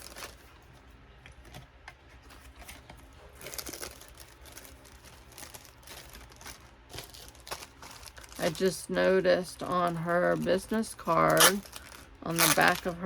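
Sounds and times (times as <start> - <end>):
paper packaging rustling: 0.0 - 13.0.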